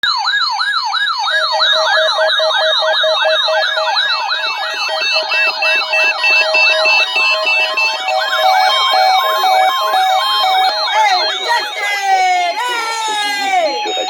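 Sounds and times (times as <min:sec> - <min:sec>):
sweeping siren tone: 0:00.0 - 0:14.0.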